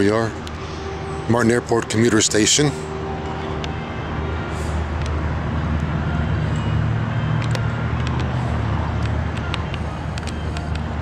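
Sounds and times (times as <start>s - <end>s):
outdoor noise: 0.0s - 11.0s.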